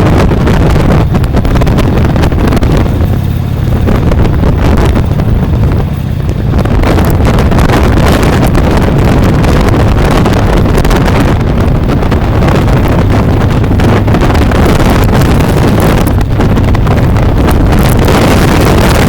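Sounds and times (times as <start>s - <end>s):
motorbike rumble at speed: 0.0s - 19.0s
wind buffeting microphone: 0.0s - 19.0s.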